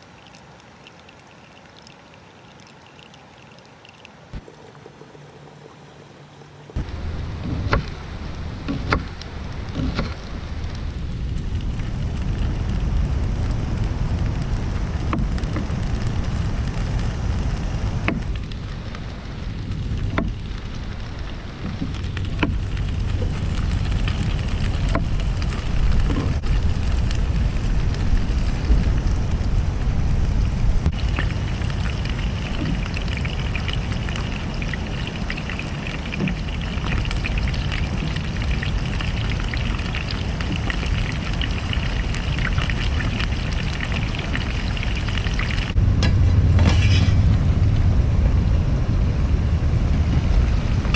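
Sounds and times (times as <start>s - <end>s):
crackles and clicks: 0.0s - 50.9s
wind buffeting microphone: 4.4s - 50.9s.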